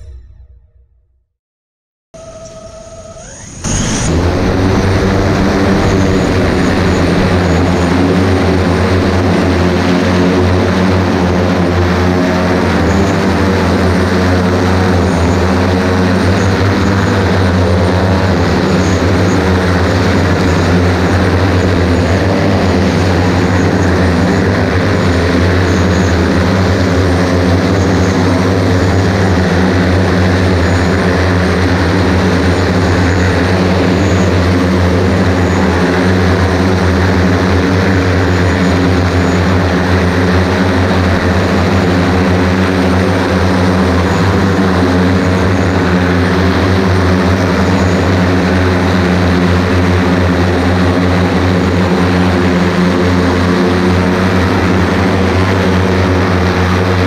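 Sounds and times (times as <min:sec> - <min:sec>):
multirotor propellers droning: 0:02.2 - 0:57.0.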